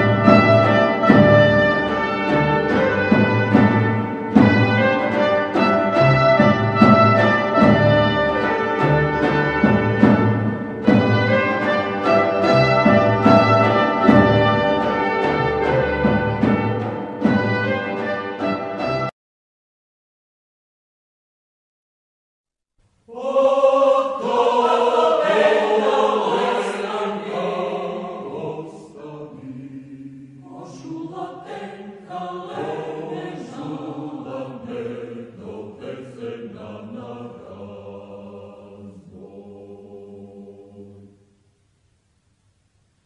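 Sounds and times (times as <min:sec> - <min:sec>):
choir singing: 0:00.0 - 0:19.1, 0:23.1 - 0:41.2.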